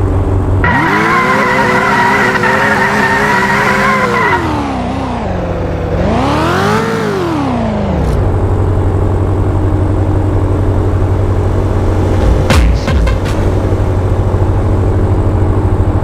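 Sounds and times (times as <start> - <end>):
car engine revving: 0.5 - 16.0.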